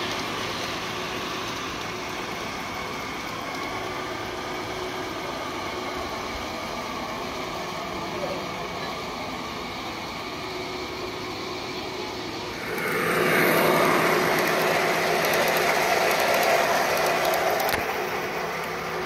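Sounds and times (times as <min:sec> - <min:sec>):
model train rolling on rails: 0:00.0 - 0:19.0.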